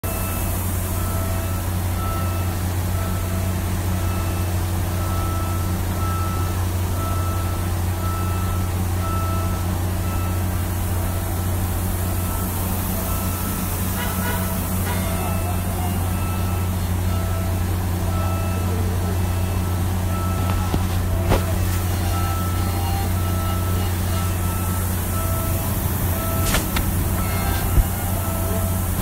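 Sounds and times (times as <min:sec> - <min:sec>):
diesel locomotive idling: 0:00.0 - 0:29.0.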